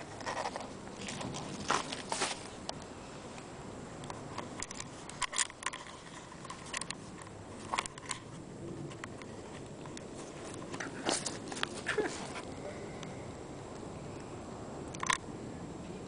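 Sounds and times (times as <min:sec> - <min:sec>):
handling clicks and rustles: 0:00.0 - 0:13.1.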